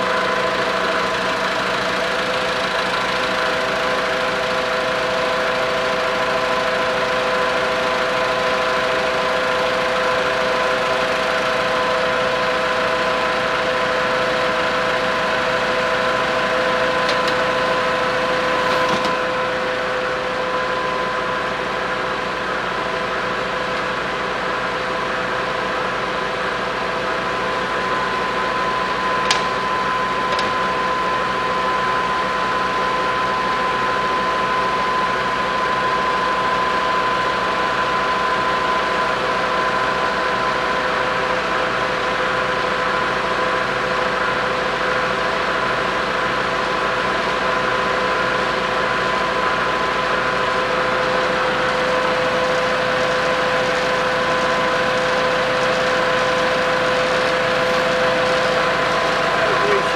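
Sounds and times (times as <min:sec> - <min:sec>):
engine whirring and clattering: 0:00.0 - 0:59.9.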